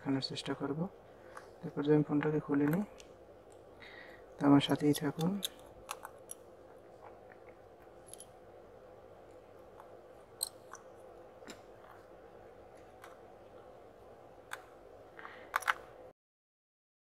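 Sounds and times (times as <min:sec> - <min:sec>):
faint steady hum: 0:00.0 - 0:16.1.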